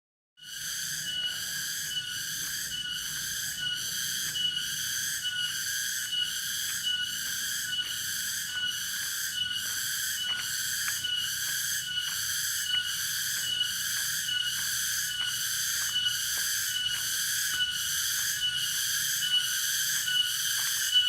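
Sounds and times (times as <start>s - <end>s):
cicadas buzzing: 0.4s - 21.0s.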